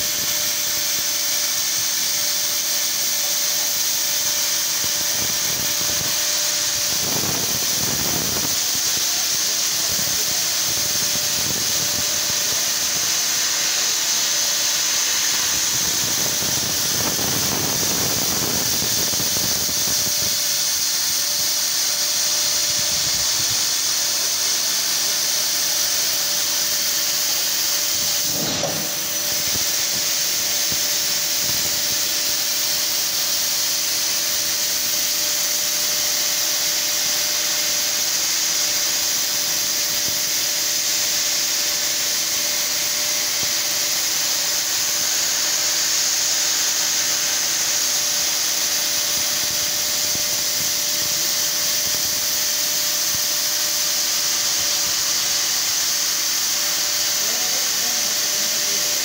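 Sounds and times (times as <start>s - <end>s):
laser cutting head hissing: 0.0s - 59.0s.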